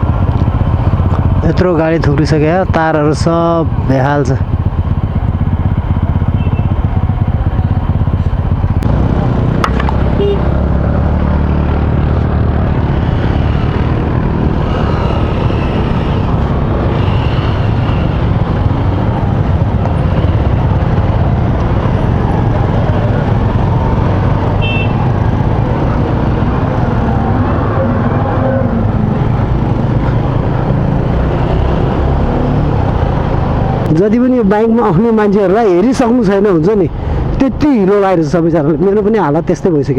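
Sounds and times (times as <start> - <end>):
motorcycle engine running: 0.0 - 39.8
road and wind noise: 0.0 - 39.9.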